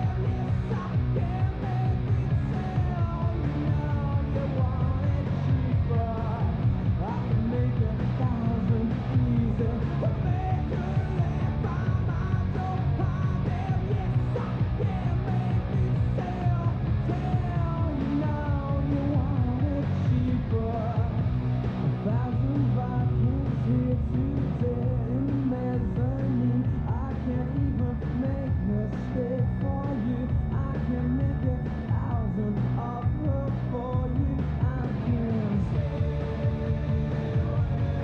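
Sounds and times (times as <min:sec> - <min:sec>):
rock and roll music: 0:00.0 - 0:38.0.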